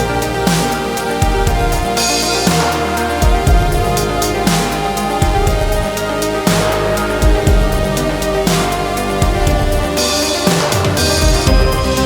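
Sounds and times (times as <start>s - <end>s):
dubstep music with heavy bass: 0.0s - 12.0s.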